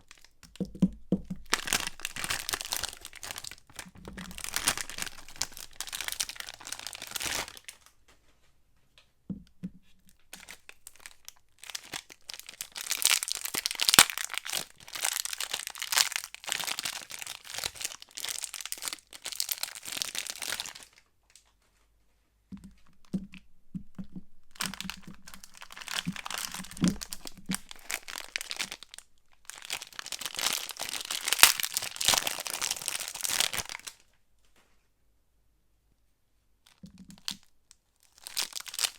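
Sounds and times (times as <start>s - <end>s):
soap wrappers crinkling: 0.0s - 7.9s, 10.1s - 21.5s, 22.6s - 34.0s, 36.7s - 37.4s, 38.0s - 38.9s.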